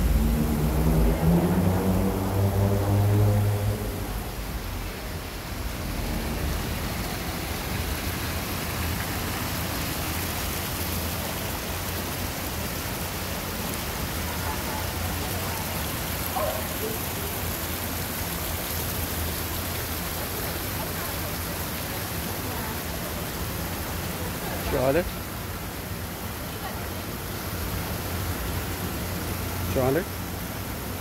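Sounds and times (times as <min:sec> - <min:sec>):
water splashing down stone steps: 0:02.3 - 0:31.0.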